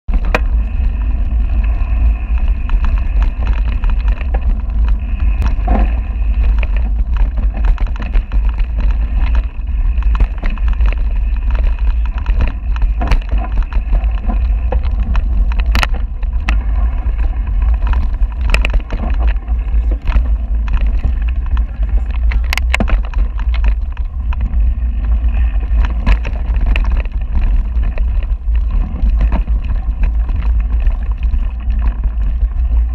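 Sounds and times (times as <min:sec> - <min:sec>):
bike knocks and rattles: 0:00.1 - 0:32.9
tyres rushing on loose dirt: 0:00.1 - 0:32.9
wind buffeting microphone: 0:00.1 - 0:32.9.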